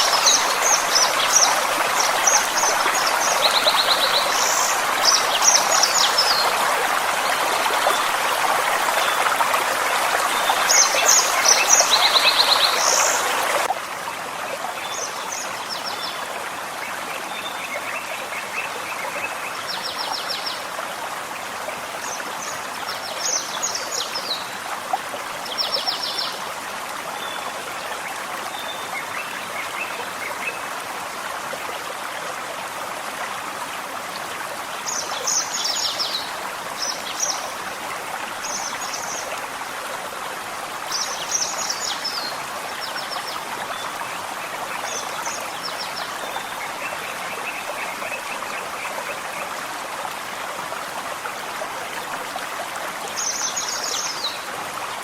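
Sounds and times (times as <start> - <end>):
forest stream running: 0.0 - 55.0.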